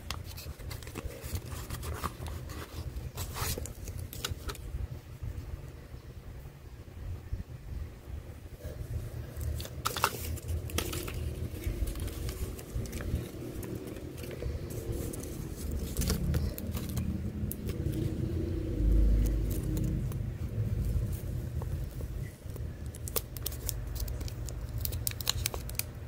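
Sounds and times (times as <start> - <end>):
steady low rumble: 0.5 - 25.0.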